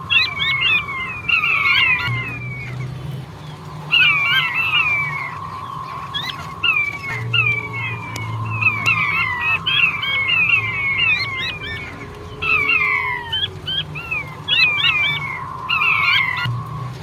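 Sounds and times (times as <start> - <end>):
quail calling whistled notes: 0.0 - 17.0.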